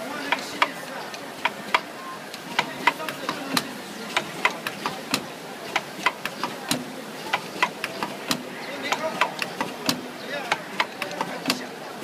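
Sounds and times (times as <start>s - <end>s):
plastic bottles clicking into holders: 0.0s - 11.7s.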